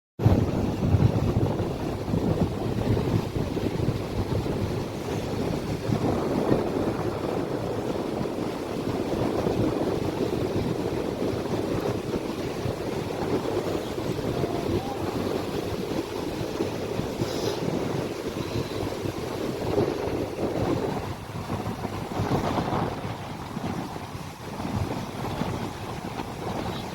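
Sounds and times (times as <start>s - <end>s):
sea rushing: 0.2s - 26.9s
wind buffeting microphone: 0.2s - 26.9s.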